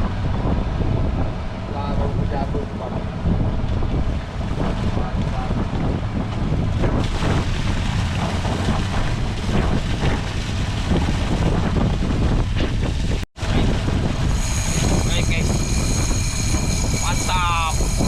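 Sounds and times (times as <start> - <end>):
water noise: 0.0 - 18.0
wind buffeting microphone: 0.0 - 18.0.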